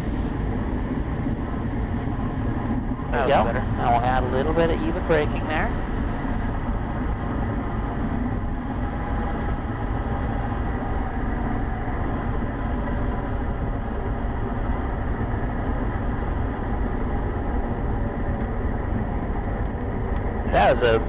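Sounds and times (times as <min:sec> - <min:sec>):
airplane engine idling: 0:00.0 - 0:21.0.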